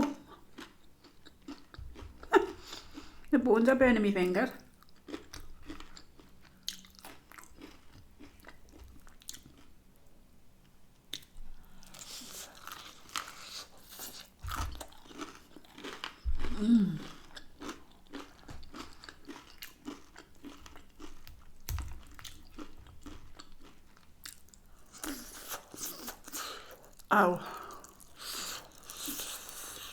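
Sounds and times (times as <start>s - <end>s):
chewing crisp chicken: 0.0s - 3.2s, 4.9s - 9.8s, 11.1s - 29.9s.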